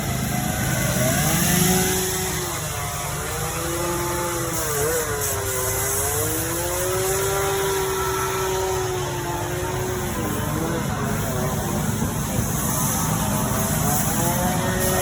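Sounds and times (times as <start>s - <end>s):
chainsaw running: 0.0s - 15.0s.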